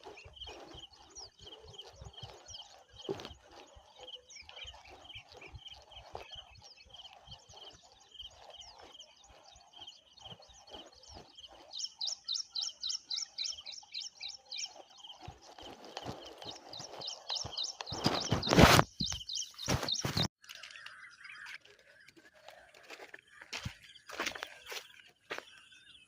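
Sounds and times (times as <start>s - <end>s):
birds chirping: 0.0s - 26.0s
rapid run of chirps: 0.0s - 26.0s.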